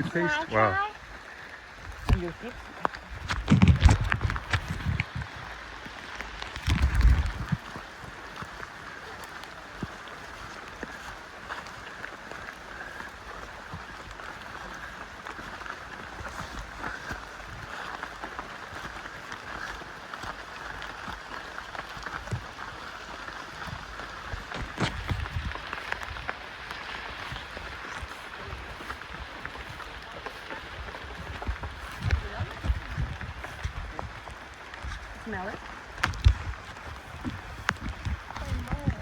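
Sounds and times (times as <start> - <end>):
small rustles and clicks: 0.0 - 39.0.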